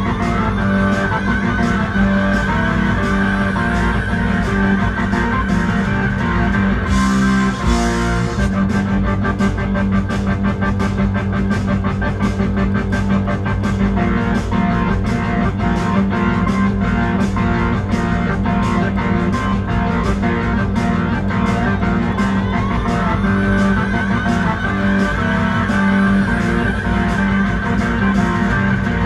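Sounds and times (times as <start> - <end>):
rock organ riff on keyboard: 0.0 - 29.0.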